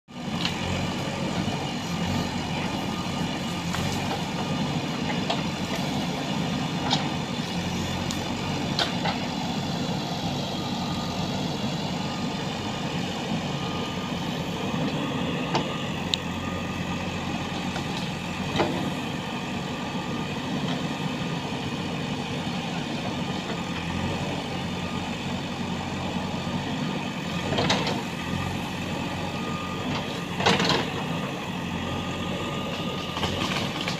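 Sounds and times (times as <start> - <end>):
diesel engine under load: 0.1 - 33.9.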